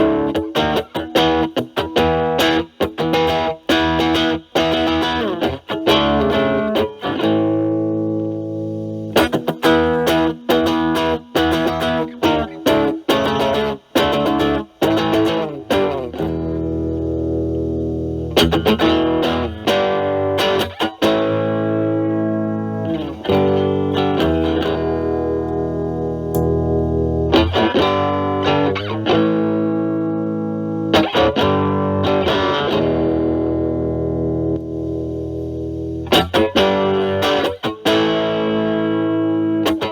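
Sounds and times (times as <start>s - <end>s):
overdriven electric guitar riffs: 0.0s - 39.9s.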